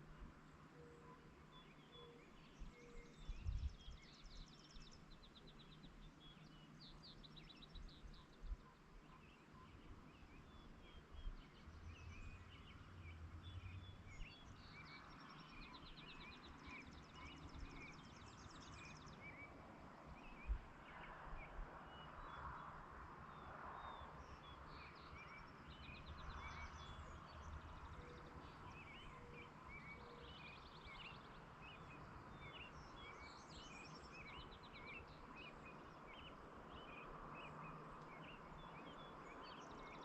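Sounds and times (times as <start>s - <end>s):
songbirds trilling and chirping: 0.0s - 40.0s.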